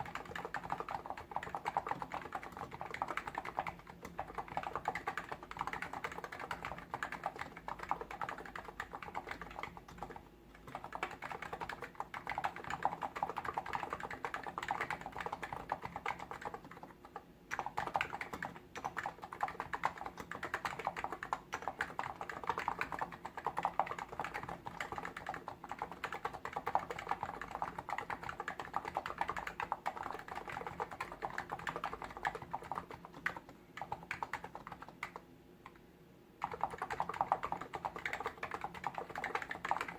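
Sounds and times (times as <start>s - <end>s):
fast keyboard typing: 0.0s - 35.8s, 36.4s - 39.9s.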